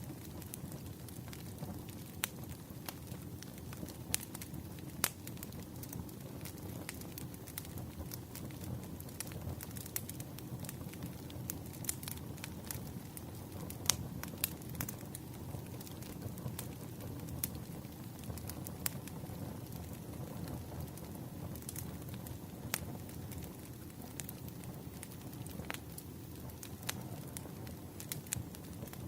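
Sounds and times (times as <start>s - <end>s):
low rush of flames: 0.0s - 29.0s
wood fire crackling: 0.0s - 29.0s.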